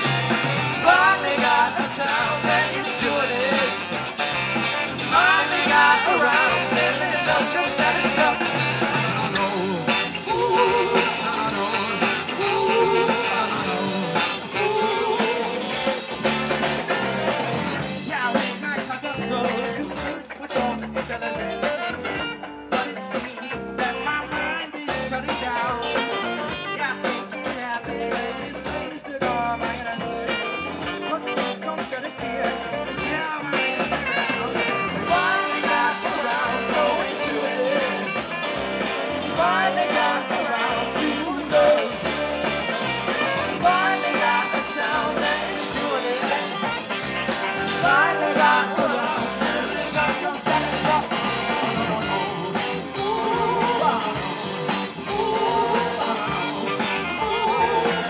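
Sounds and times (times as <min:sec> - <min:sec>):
tenor saxophone: 0:00.0 - 0:18.0, 0:21.6 - 0:22.7, 0:25.8 - 0:27.2, 0:30.7 - 0:58.0
bass guitar: 0:00.0 - 0:58.0
drum kit: 0:00.0 - 0:58.0
electric guitars: 0:00.0 - 0:58.0.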